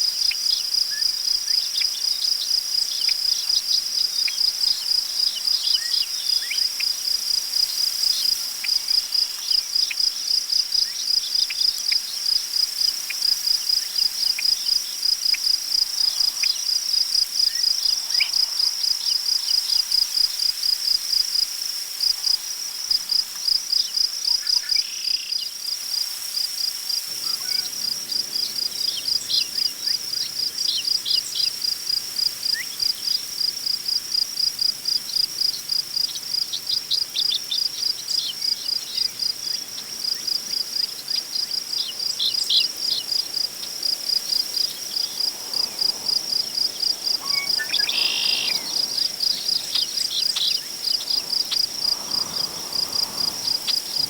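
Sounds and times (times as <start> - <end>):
crickets chirping: 0.0 - 54.0
wind rustling tall grass: 0.0 - 54.0.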